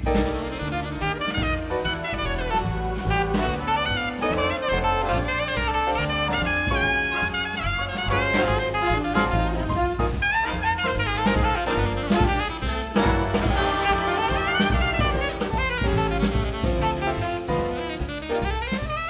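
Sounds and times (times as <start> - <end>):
alto saxophone solo: 0.0 - 19.0
big band jazz with brass and drums: 0.0 - 19.0.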